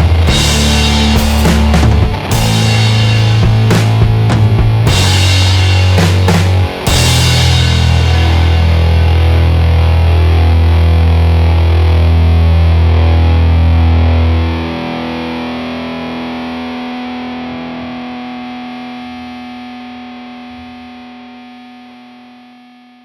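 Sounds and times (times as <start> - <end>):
distorted electric guitar chord: 0.0 - 23.0.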